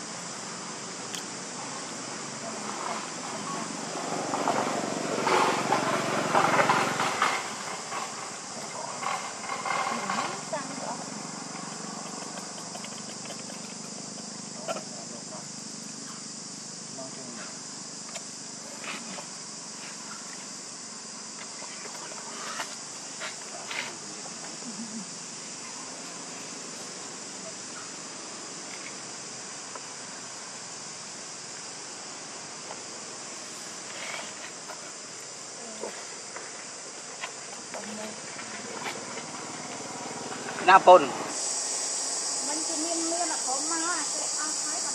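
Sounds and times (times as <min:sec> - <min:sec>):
insect buzzing: 0:00.0 - 0:44.9.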